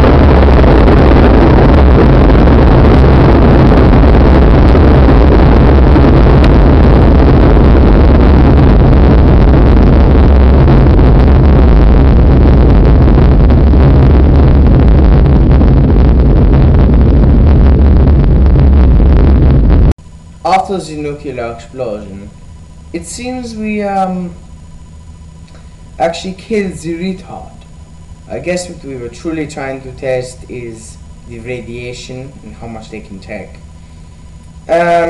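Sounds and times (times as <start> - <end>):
explosion roar and rumble: 0.0 - 35.0.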